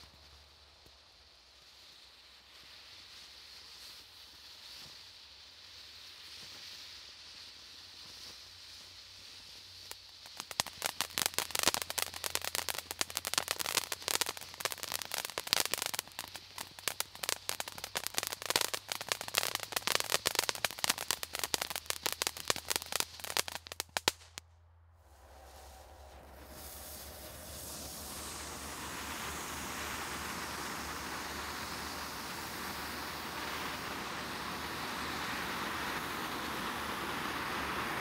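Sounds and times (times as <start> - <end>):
firework fast crackling: 0.0 - 38.0
firework hissing: 0.0 - 38.0.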